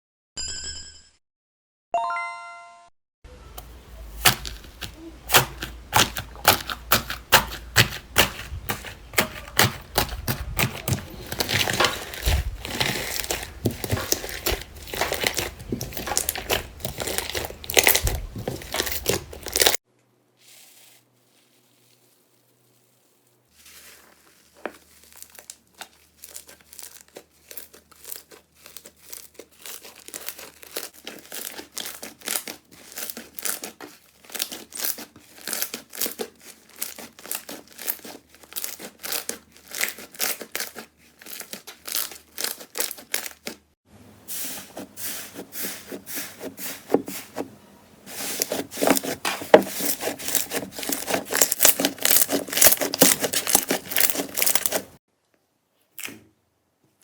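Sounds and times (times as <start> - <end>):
slime crackling and popping: 3.6 - 19.8, 20.9 - 43.7, 48.2 - 55.0.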